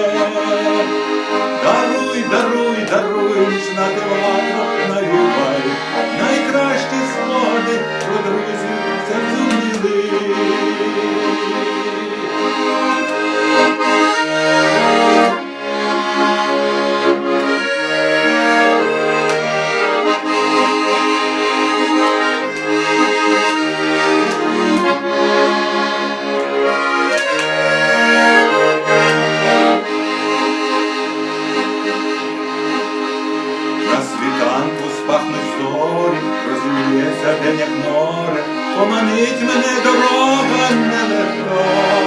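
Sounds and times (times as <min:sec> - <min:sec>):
accordion playing: 0:00.0 - 0:42.0.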